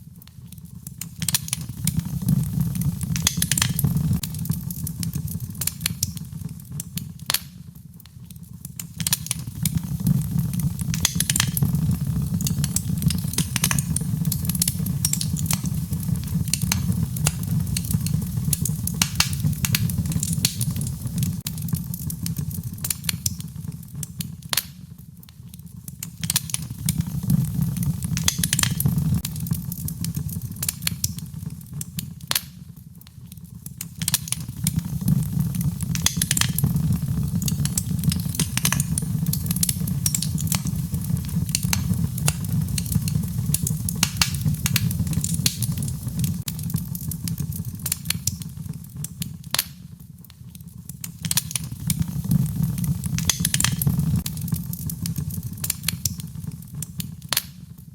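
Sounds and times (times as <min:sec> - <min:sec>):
fire crackling and popping: 0:00.0 - 0:57.9
low rumble of flame: 0:00.0 - 0:57.9.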